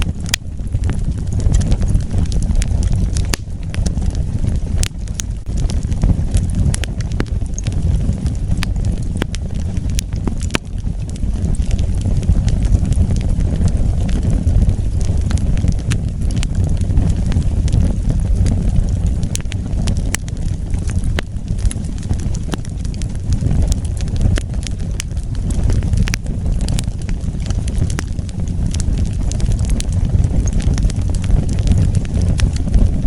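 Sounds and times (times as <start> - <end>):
burning wood crackling and popping: 0.0 - 33.0
low rumble of flames: 0.0 - 33.0.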